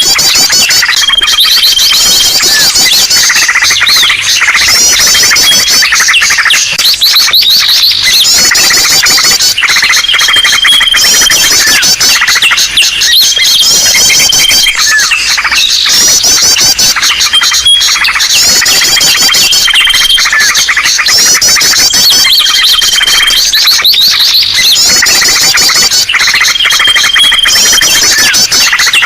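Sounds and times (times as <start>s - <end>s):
held high bird whistle: 0.0s - 29.0s
small birds chirping and trilling: 0.0s - 29.0s.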